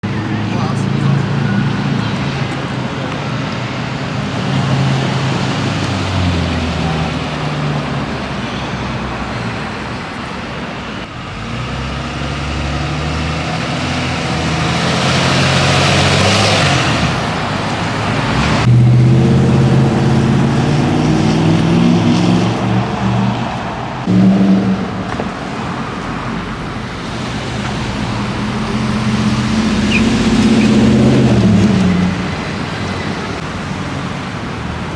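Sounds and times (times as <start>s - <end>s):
diesel trucks accelerating: 0.0s - 34.9s
truck passing close: 0.0s - 34.9s.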